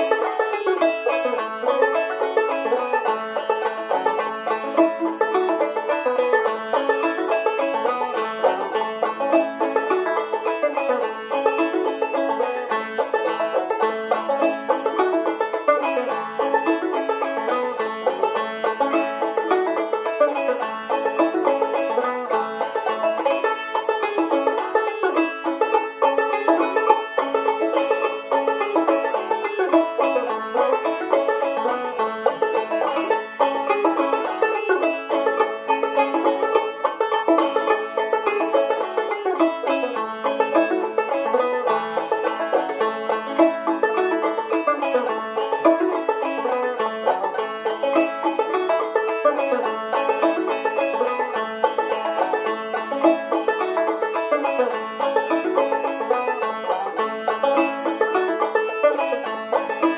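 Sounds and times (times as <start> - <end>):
banjo plucked melody: 0.0 - 59.9.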